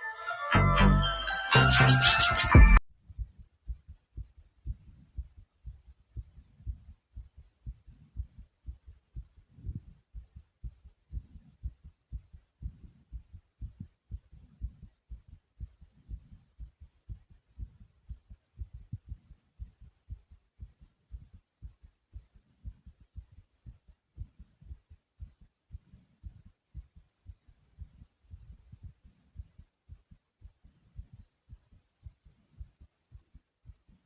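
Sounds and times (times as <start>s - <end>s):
heartbeat thuds: 2.6s - 34.0s.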